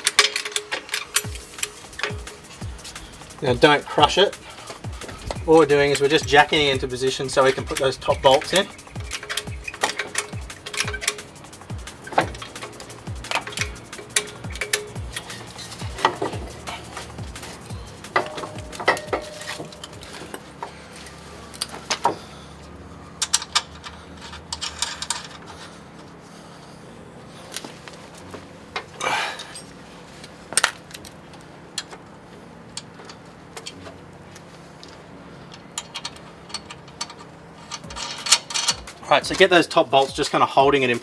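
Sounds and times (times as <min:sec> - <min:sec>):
metal nuts and tools clinking: 0:00.0 - 0:22.2, 0:23.2 - 0:25.6, 0:28.8 - 0:29.8, 0:32.7 - 0:34.0, 0:34.8 - 0:41.0.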